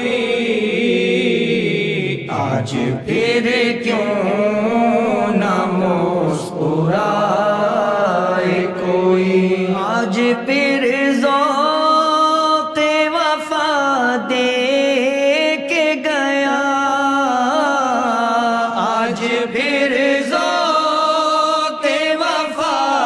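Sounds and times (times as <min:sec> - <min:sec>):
man singing devotional chant: 0:00.0 - 0:23.0.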